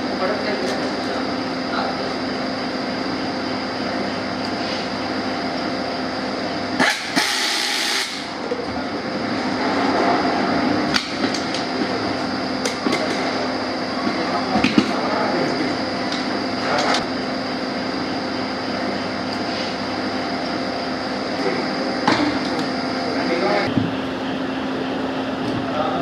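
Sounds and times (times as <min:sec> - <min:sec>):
workshop hum with whine: 0:00.0 - 0:26.0.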